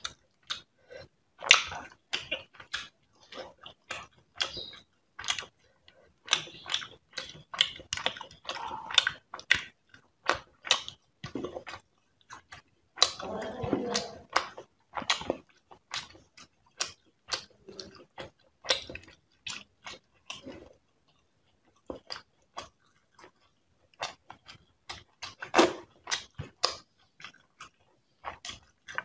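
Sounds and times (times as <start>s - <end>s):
chewing with mouth smacks: 0.0s - 29.0s.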